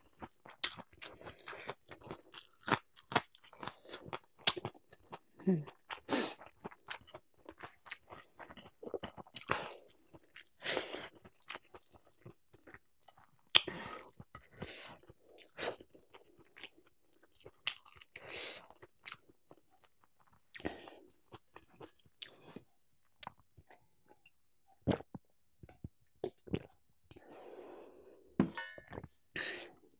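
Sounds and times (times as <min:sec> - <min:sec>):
person chewing and crunching: 0:00.0 - 0:27.3.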